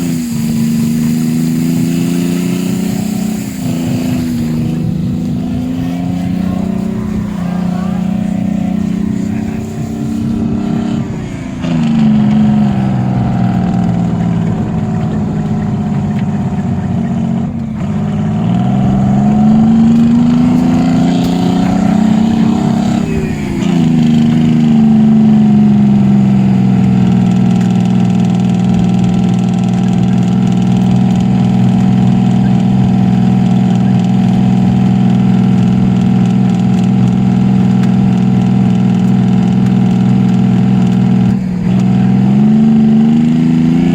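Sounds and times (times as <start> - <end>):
truck diesel engine: 0.0 - 43.9.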